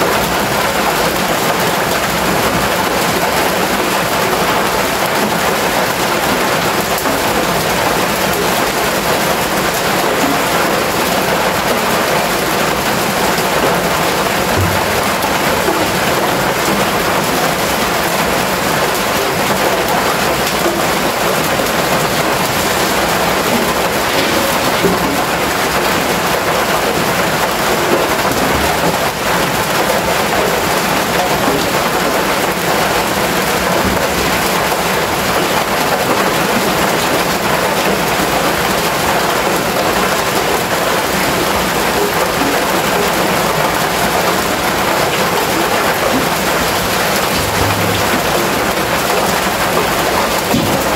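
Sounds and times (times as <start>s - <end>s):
rain on a metal roof: 0.0s - 50.9s.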